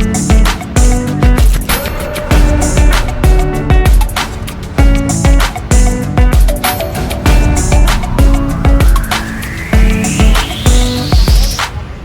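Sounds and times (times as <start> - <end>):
music with heavy kick drums: 0.0 - 11.8
rising sweep: 1.5 - 11.7.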